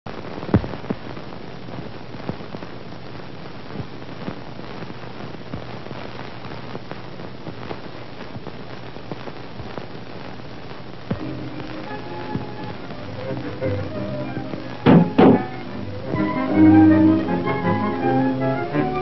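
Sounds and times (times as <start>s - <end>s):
record surface noise: 0.1s - 19.0s.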